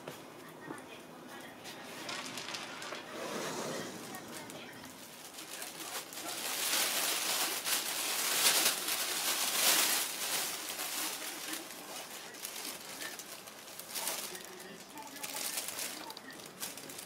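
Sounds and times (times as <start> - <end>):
plastic bag rustling and crinkling: 1.4 - 17.0.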